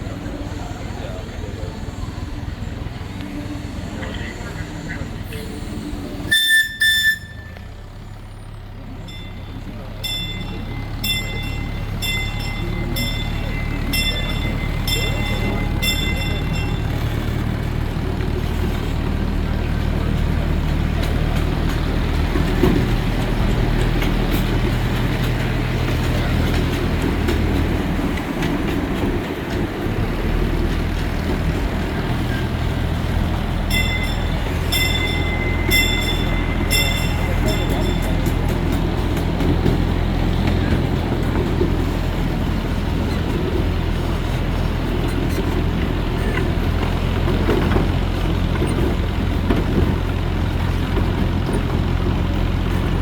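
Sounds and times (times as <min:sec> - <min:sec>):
miniature train engine humming: 0:00.0 - 0:53.0
wheels rumbling on rails: 0:00.0 - 0:53.0.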